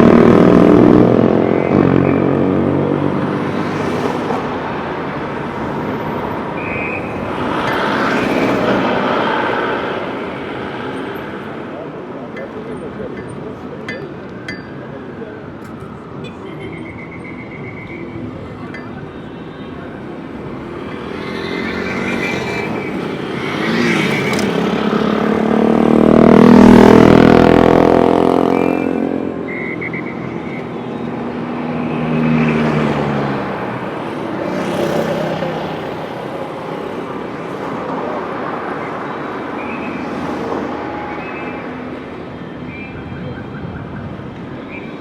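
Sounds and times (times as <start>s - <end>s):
street noise: 0.0s - 45.0s
vehicles passing by: 0.0s - 45.0s.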